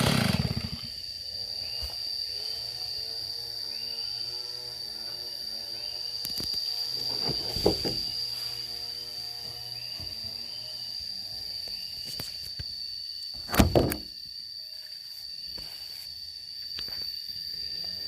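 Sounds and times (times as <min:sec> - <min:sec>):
high-pitched insect trill: 0:00.0 - 0:18.0
outdoor background noise: 0:00.0 - 0:18.0.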